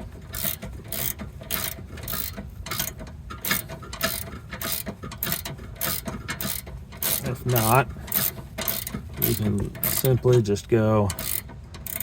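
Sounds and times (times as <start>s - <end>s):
ratchet clicking: 0.3s - 10.4s, 11.0s - 12.0s.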